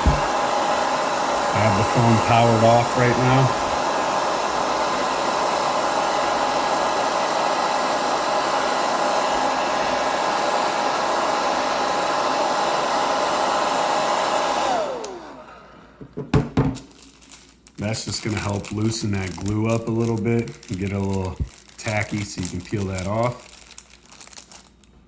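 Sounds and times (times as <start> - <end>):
hair dryer blowing: 0.0 - 16.1, 18.2 - 23.4.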